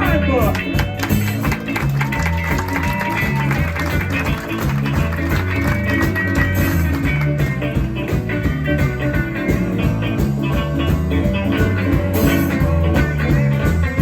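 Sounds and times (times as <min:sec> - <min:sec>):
drums: 0:00.0 - 0:14.0
electric guitar: 0:00.0 - 0:14.0
walking bass line: 0:00.0 - 0:14.0.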